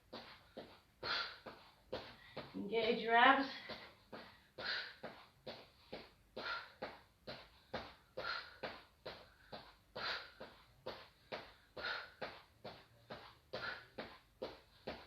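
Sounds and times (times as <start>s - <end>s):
person breathing forcefully: 0.0s - 2.6s, 3.5s - 15.0s.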